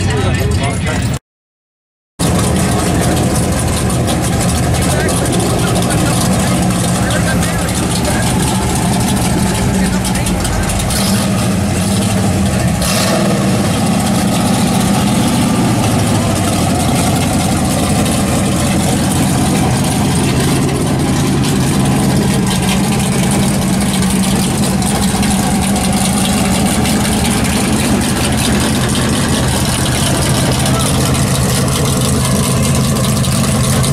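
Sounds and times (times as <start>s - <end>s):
car engine idling: 0.0s - 1.2s, 2.2s - 33.9s.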